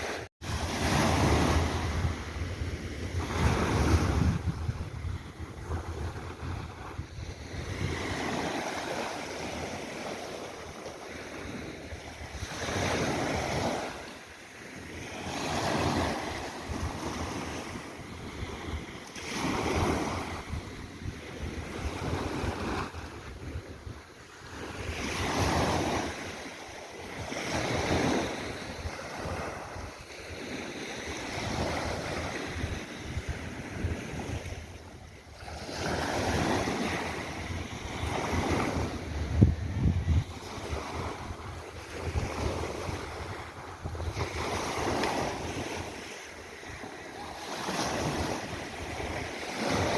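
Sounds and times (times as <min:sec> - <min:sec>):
sea waves breaking: 0:00.0 - 0:49.9
wind rumble on microphone: 0:00.4 - 0:14.1, 0:14.9 - 0:26.4, 0:27.1 - 0:47.0.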